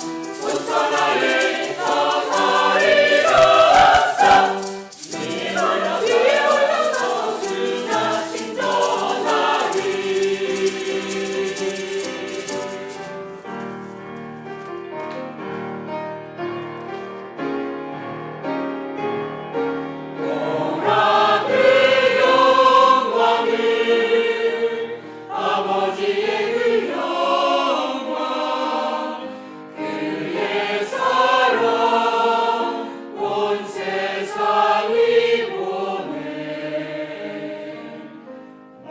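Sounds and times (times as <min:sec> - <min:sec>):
church choir singing: 0:00.0 - 0:13.9, 0:19.8 - 0:38.9.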